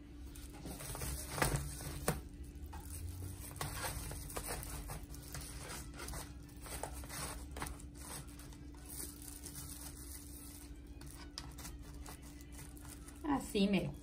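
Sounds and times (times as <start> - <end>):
crinkles and rustles of handling food: 0.0 - 14.0.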